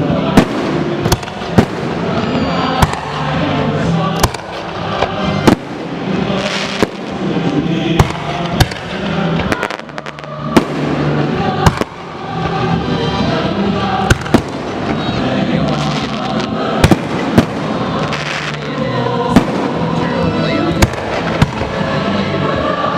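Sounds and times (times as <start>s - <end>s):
fireworks bangs: 0.3s - 3.3s, 4.2s - 12.8s, 14.0s - 21.8s.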